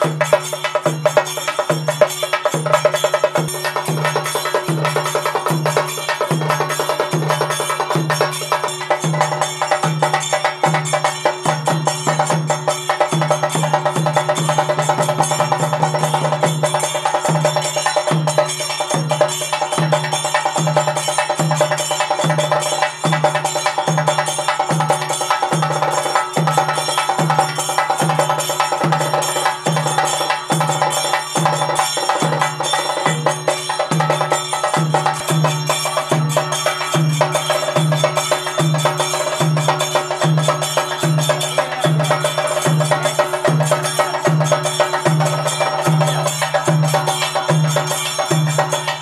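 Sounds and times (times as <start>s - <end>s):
cymbals and bells clanging: 0.0s - 49.0s.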